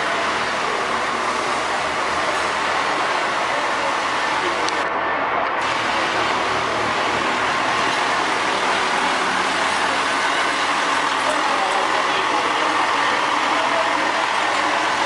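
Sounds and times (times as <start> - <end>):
boat lift engine running: 0.0 - 15.0.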